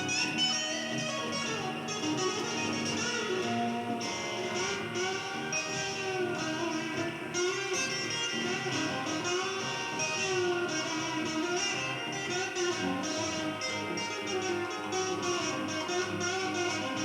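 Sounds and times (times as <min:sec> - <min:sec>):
blues music: 0:00.0 - 0:17.0
guitar playing: 0:00.0 - 0:17.0.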